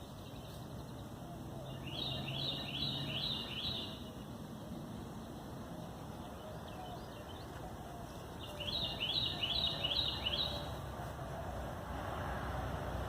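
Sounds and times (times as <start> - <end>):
low outdoor rumble: 0.0 - 13.0
songbird singing: 0.0 - 13.0.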